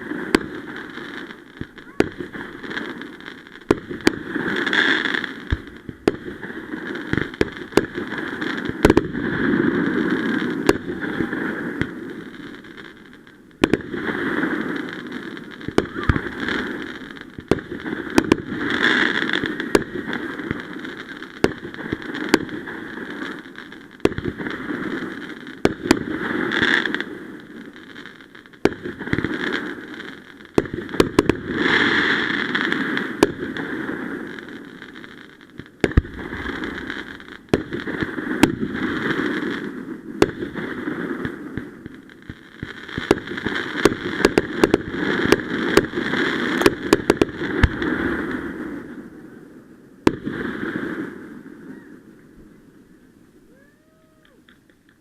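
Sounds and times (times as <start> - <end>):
fireworks bangs: 0.0 - 49.4, 50.0 - 52.6.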